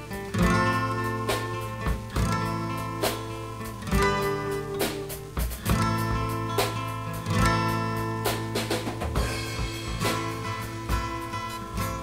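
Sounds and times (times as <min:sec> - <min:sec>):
acoustic guitar chords: 0:00.0 - 0:12.0
sharp percussive hits: 0:01.3 - 0:12.0.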